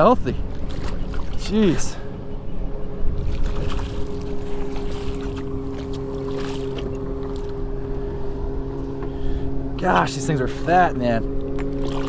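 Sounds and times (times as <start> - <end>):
steady low hum: 0.0 - 12.0
wind on microphone: 0.0 - 12.0.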